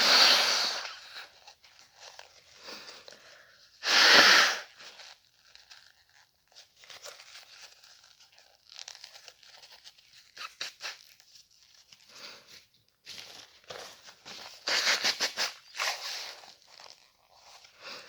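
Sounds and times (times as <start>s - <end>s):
paper tissue rustling: 0.0s - 3.8s, 4.5s - 18.0s.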